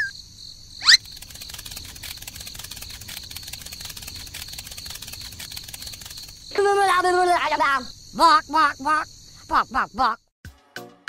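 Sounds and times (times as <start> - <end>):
crickets chirping: 0.0 - 10.3.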